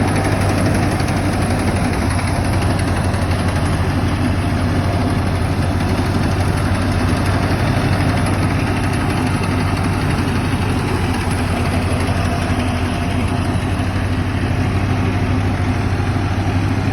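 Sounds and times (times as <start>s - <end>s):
tractor engine idling: 0.0s - 16.9s.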